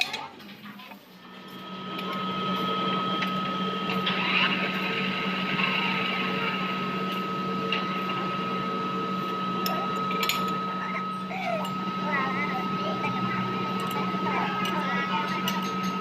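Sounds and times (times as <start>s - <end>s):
metal lathe hum and whine: 1.2s - 16.0s.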